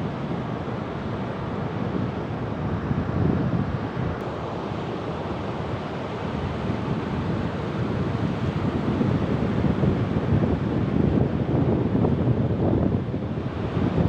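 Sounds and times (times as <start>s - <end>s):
wind rumble on microphone: 0.0s - 4.2s, 5.7s - 14.0s.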